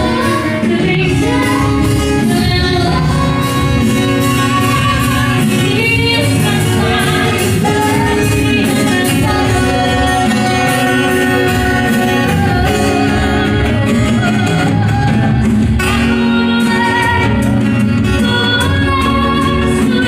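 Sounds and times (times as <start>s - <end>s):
guitar: 0.0s - 20.0s
person singing: 0.0s - 20.0s.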